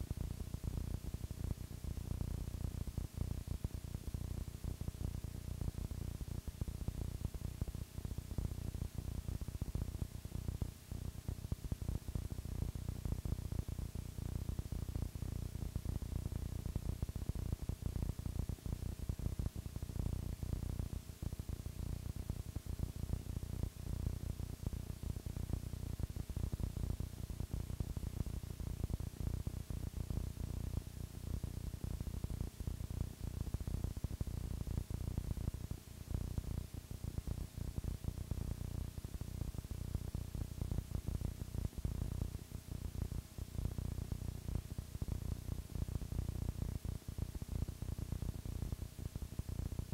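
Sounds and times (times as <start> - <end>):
crackling static rumble: 0.0 - 49.9
faint hum: 0.0 - 49.9.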